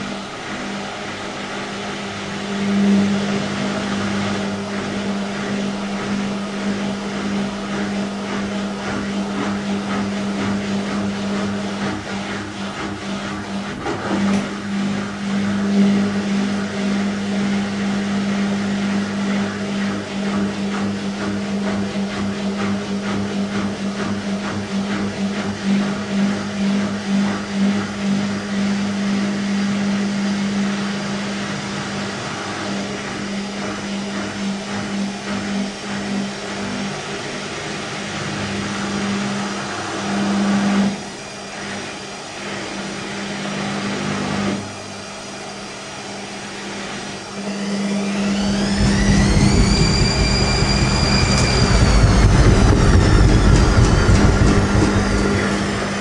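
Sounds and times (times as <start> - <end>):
motor whine rising: 0.0 - 22.1, 26.0 - 56.0
washing machine humming: 0.0 - 56.0.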